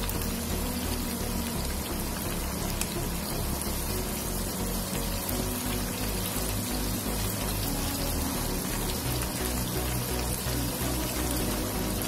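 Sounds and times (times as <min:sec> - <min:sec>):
fish deep-frying in sizzling oil: 0:00.0 - 0:12.0.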